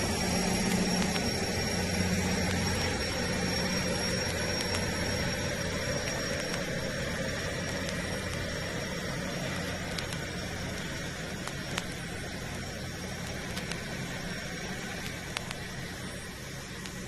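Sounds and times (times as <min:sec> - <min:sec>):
high whine: 0:00.0 - 0:17.0
vehicle engine rumble: 0:00.0 - 0:17.0.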